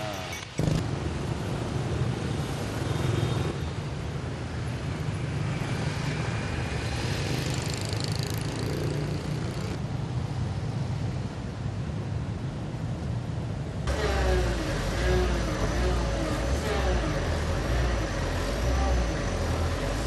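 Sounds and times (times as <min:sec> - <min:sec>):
busy road traffic rumble: 0:00.0 - 0:20.0.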